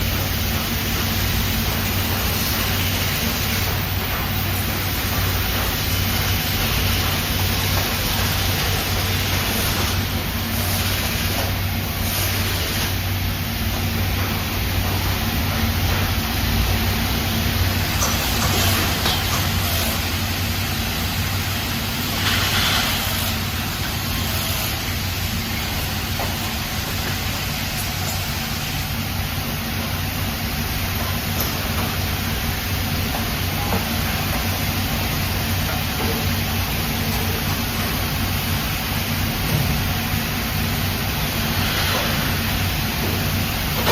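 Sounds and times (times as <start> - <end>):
machinery hiss: 0.0 - 43.9.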